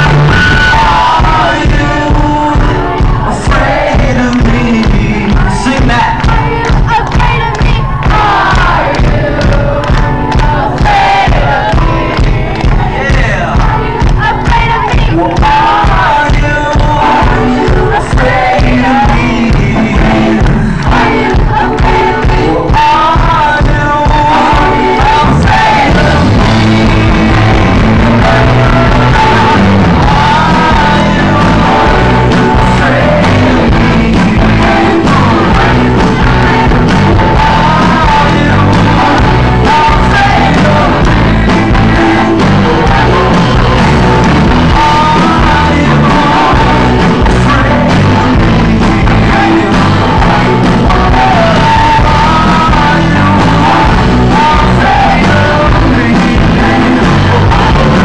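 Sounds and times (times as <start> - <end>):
electric guitar: 0.0 - 58.0
live rock band playing: 0.0 - 58.0
person singing: 0.0 - 58.0.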